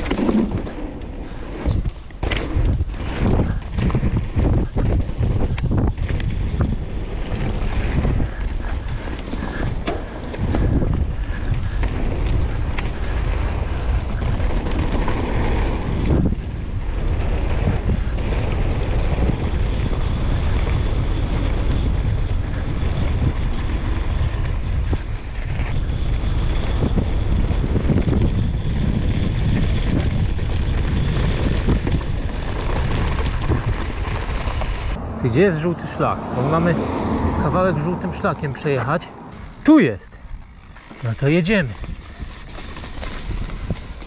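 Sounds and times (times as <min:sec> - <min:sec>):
mountain bike rumbling and rattling: 0:00.0 - 0:44.0
wind buffeting microphone: 0:00.0 - 0:44.0.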